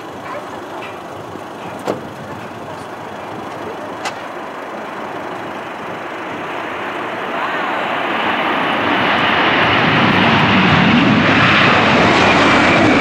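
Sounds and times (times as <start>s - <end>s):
jet engines roaring at takeoff: 0.0s - 13.0s.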